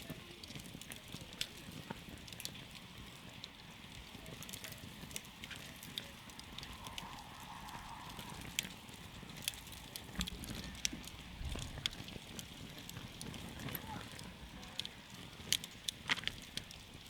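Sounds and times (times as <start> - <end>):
fire crackling and popping: 0.0 - 17.0
rush of flame: 0.0 - 17.0.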